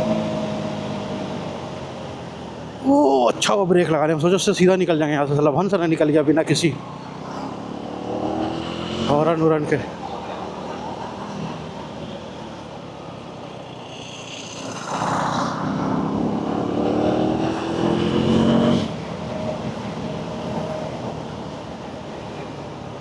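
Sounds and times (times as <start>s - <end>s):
motorcycle engine accelerating: 0.0s - 3.2s, 6.6s - 23.0s
road hum: 0.0s - 23.0s.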